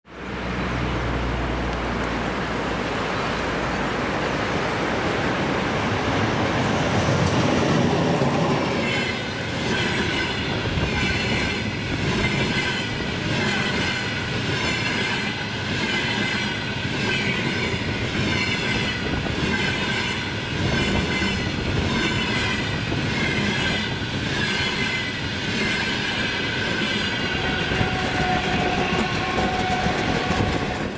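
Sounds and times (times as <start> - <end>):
train rolling past: 0.1 - 30.9.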